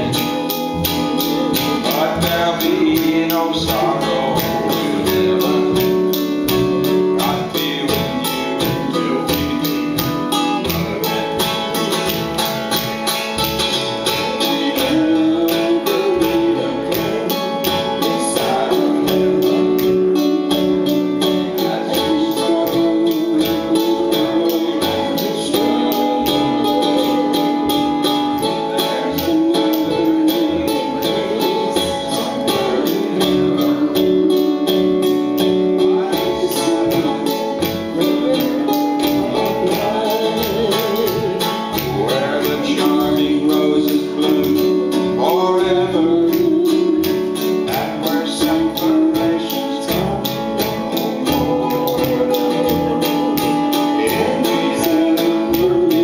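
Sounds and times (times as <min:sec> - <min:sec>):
flatpicked guitar: 0:00.0 - 0:56.0
voices singing: 0:00.0 - 0:56.0.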